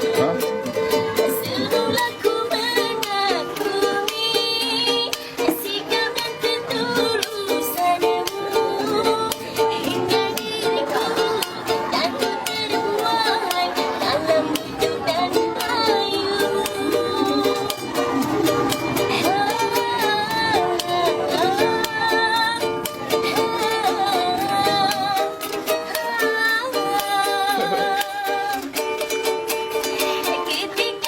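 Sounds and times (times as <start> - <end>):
strummed small string instrument: 0.0 - 31.0
woman singing: 0.0 - 31.0.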